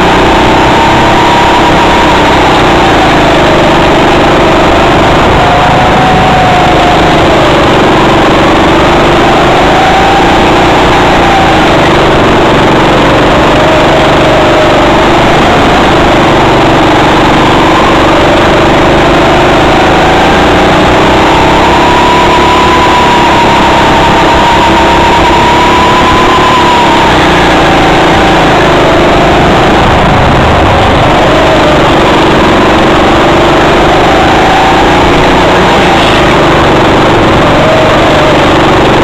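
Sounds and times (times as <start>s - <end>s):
go-kart engine running: 0.0s - 39.0s.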